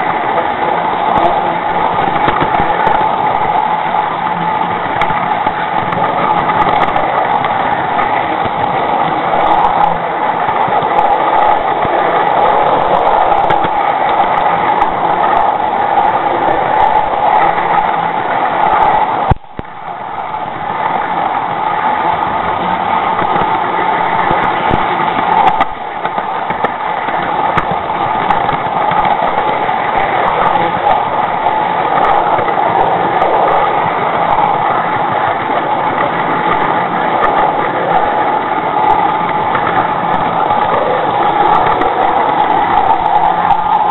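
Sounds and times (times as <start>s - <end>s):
model train running on track: 0.0s - 43.9s.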